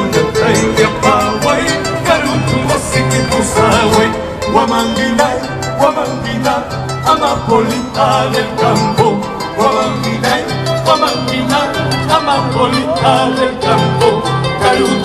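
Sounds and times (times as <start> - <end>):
guitars: 0.0 - 15.0
repeating bass line: 0.0 - 15.0
wavering melody line: 0.0 - 15.0.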